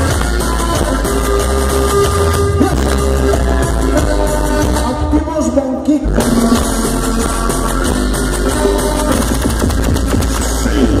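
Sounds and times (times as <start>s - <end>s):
loud dance music with heavy bass: 0.0s - 11.0s.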